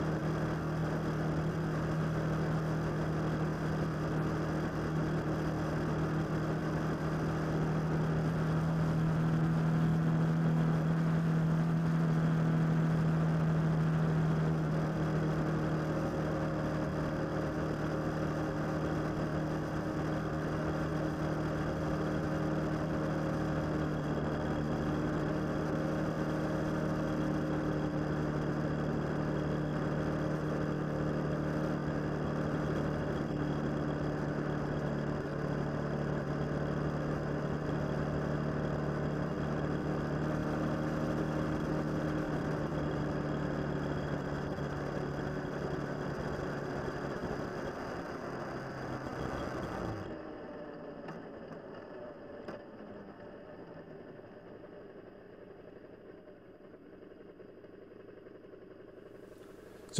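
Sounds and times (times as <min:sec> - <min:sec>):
motorcycle engine running: 0:00.0 - 0:50.1
road noise: 0:00.0 - 0:50.4.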